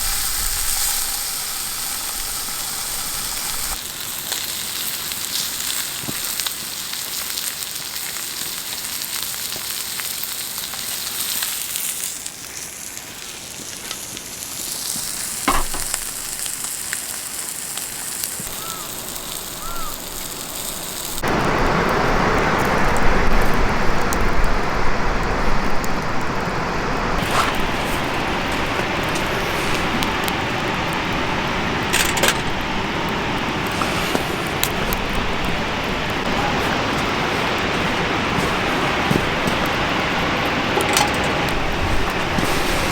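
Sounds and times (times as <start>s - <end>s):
fire crackling sharply: 0.0s - 42.9s
fire rushing noise: 0.0s - 42.9s
meat sizzling over a fire: 0.0s - 42.9s.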